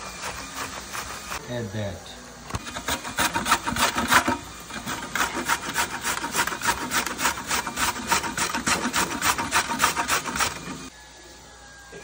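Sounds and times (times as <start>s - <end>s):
carrot grated on metal grater: 0.0s - 1.4s, 2.6s - 10.9s.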